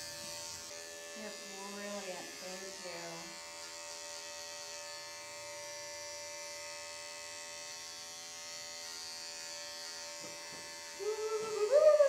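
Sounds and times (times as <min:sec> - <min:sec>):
electric clippers running: 0:00.0 - 0:12.0.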